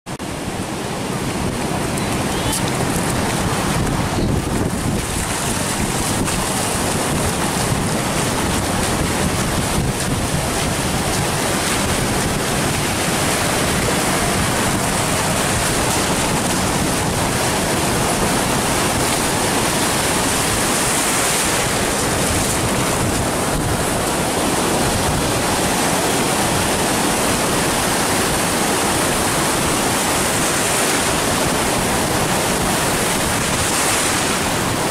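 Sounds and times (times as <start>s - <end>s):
wind rumbling on microphone: 0.1s - 34.9s
surf breaking on beach: 0.2s - 34.9s.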